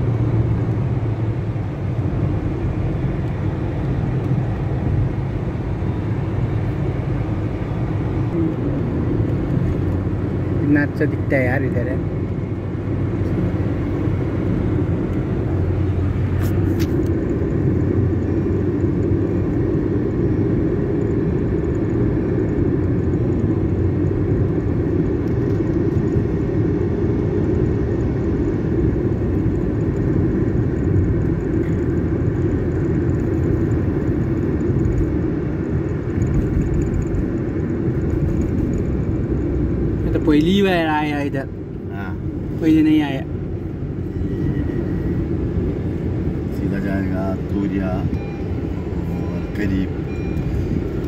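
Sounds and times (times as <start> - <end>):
car engine and road noise: 0.0 - 51.0.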